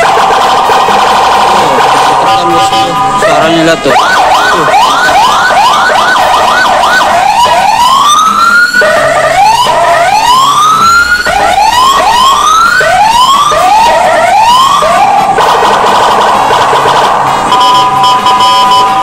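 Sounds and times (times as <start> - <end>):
electronic siren wailing and yelping: 0.0 - 19.0.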